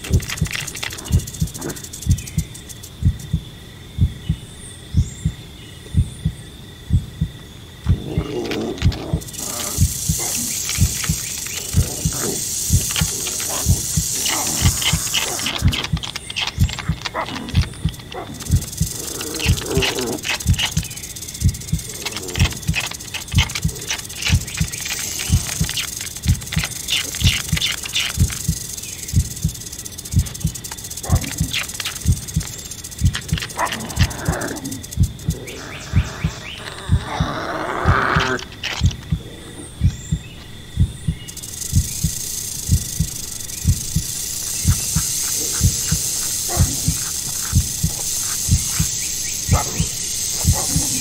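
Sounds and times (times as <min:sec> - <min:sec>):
short high-pitched wildlife sounds: 0:00.0 - 0:06.4, 0:07.9 - 0:51.0
heartbeat thumps: 0:00.0 - 0:51.0.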